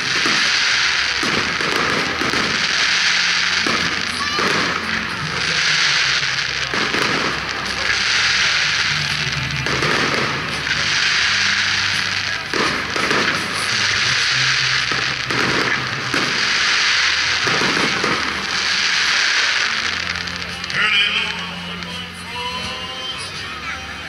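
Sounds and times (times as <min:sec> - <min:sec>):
fireworks booming: 0:00.0 - 0:22.7
fireworks crackling: 0:00.0 - 0:24.0.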